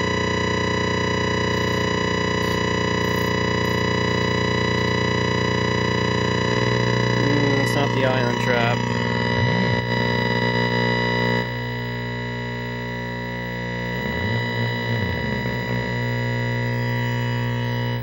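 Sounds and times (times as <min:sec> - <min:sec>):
distorted buzz from television speaker: 0:00.0 - 0:18.0.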